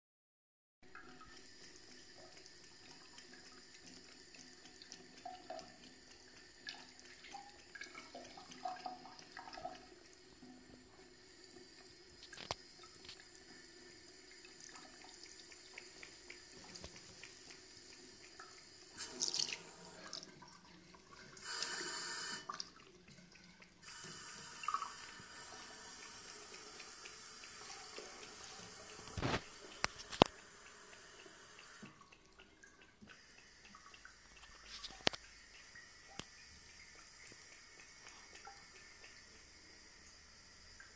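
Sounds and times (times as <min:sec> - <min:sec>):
cat lapping water: 0:00.9 - 0:40.9
water trickling into ceramic bowl: 0:00.9 - 0:40.9.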